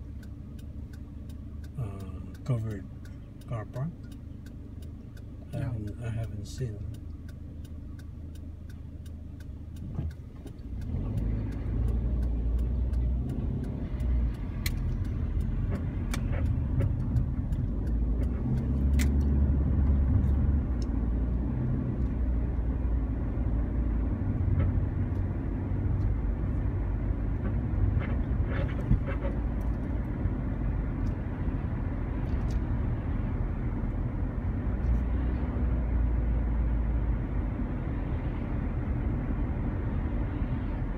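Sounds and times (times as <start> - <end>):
car engine and tyre rumble: 0.0 - 40.9
road noise: 0.0 - 40.9
turn-signal indicator ticking: 0.0 - 40.9.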